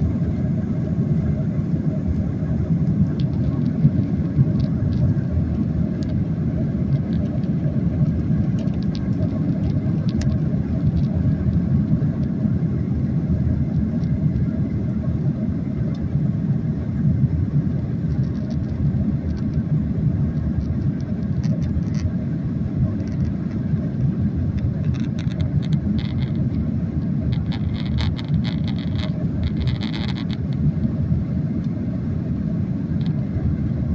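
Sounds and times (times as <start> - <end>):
airplane cabin engine rumble: 0.0 - 33.9.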